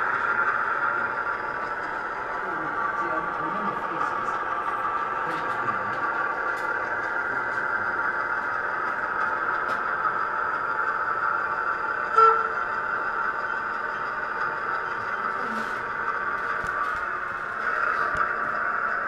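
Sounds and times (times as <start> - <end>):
model diesel engine running: 0.0 - 19.0.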